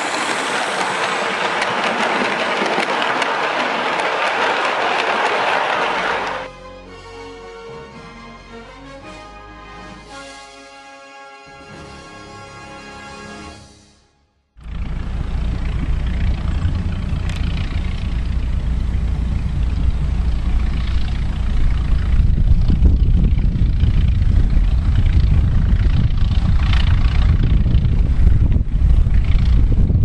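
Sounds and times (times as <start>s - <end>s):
diesel train passing: 0.0s - 14.0s, 14.6s - 29.9s.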